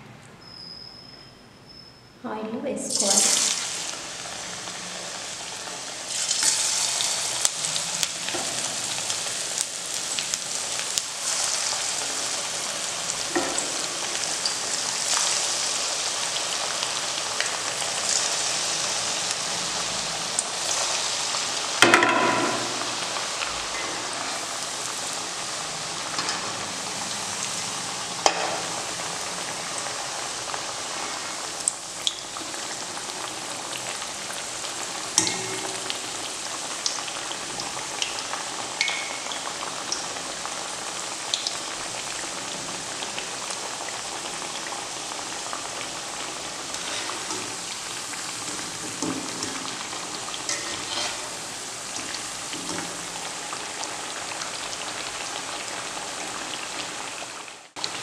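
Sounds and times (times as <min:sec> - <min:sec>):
food deep-frying in oil: 0:02.6 - 0:58.0.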